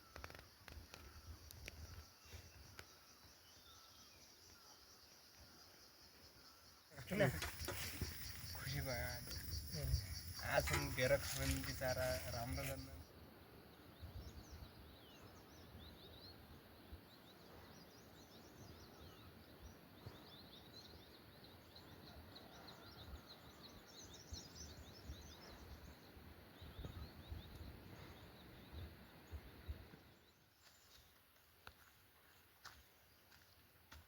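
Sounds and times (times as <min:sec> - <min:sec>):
small birds chirping: 0:00.0 - 0:13.1, 0:13.8 - 0:31.9.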